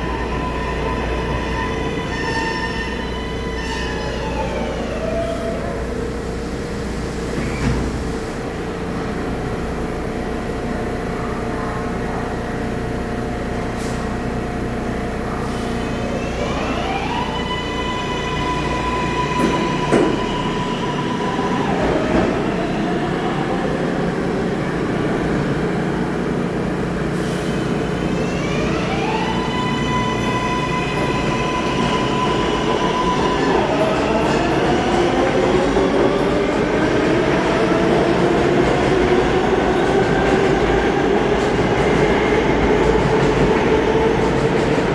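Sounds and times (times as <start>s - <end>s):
rail and wheel rumble: 0.0s - 44.9s
subway motor whine: 0.0s - 44.9s.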